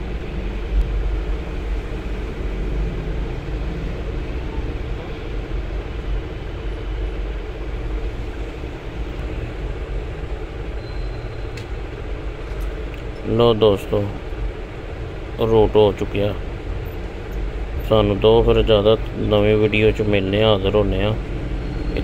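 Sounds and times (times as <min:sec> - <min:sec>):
low rumbling noise: 0:00.0 - 0:22.0.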